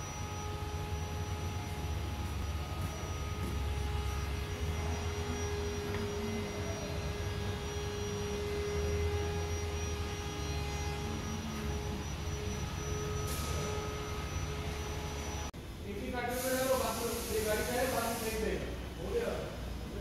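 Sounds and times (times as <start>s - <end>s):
faint high whine: 0.0s - 20.0s
low mechanical hum: 0.0s - 20.0s.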